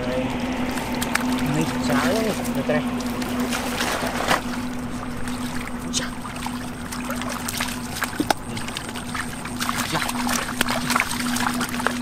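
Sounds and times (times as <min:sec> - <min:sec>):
splashing muddy water: 0:00.0 - 0:12.0
steady low hum: 0:00.0 - 0:12.0.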